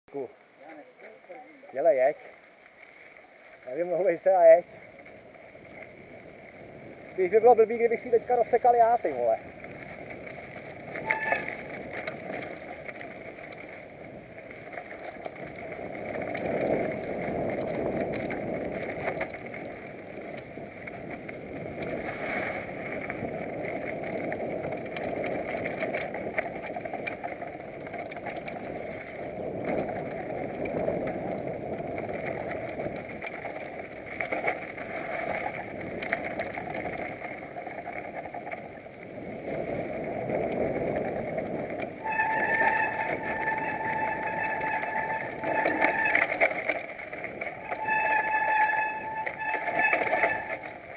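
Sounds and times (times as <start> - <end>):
bike tyres rolling over dirt: 0.1 - 50.9
bike rattling over bumps: 0.2 - 50.9.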